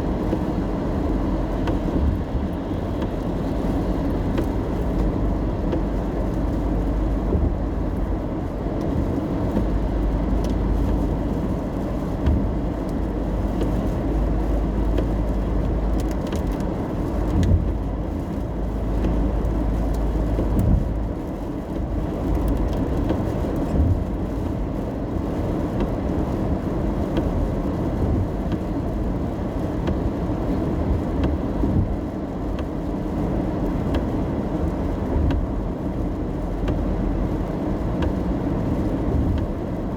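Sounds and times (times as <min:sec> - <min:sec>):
road and engine rumble in car: 0:00.0 - 0:39.9
faint rain taps: 0:00.1 - 0:39.9.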